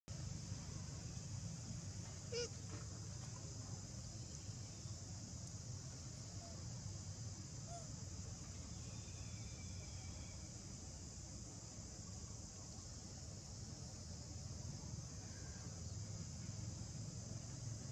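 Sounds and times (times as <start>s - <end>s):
insects droning: 0.1s - 17.9s.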